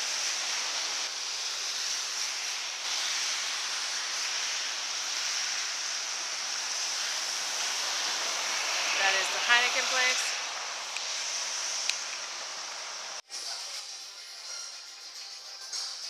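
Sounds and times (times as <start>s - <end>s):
rain and tyres on wet road: 0.0s - 13.2s.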